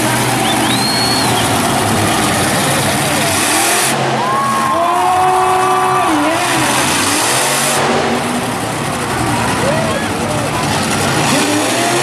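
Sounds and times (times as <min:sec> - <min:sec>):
arena crowd noise: 0:00.0 - 0:12.0
truck engine revving hard: 0:00.0 - 0:12.0.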